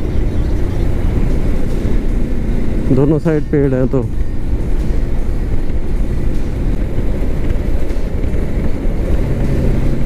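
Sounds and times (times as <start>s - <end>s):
motorcycle engine rumble: 0.0s - 10.0s
wind rush on microphone: 0.0s - 10.0s.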